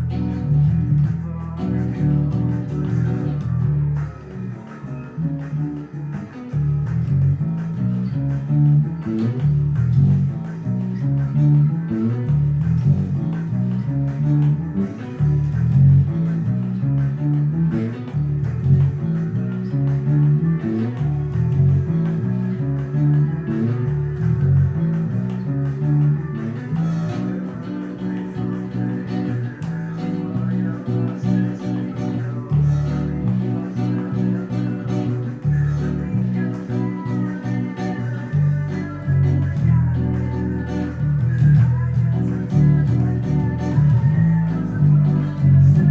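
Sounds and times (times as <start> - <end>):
bass line: 0.0 - 45.9
plucked guitar: 0.0 - 45.9.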